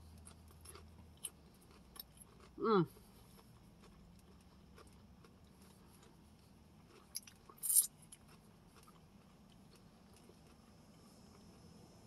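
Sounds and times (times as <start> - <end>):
person chewing faintly: 0.0 - 11.8.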